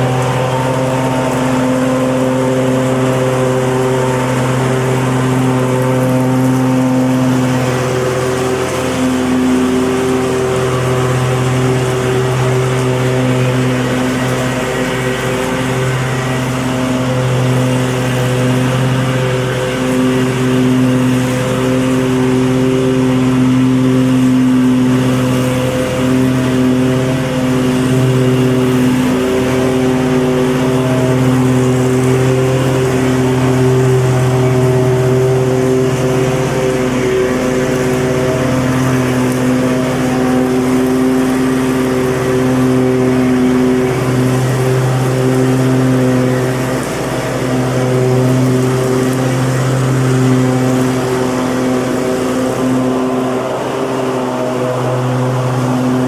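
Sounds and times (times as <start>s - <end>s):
lawn mower running: 0.0s - 56.0s.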